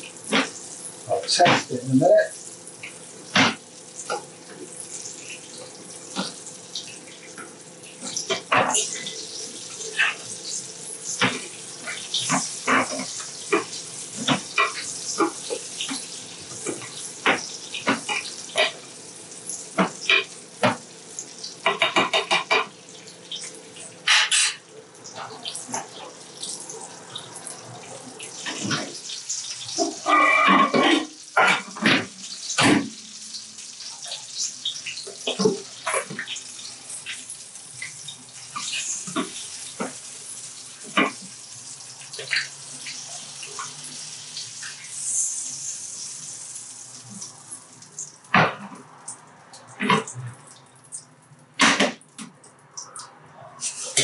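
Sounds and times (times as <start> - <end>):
butter sizzling in a frying pan: 0.0 - 51.1.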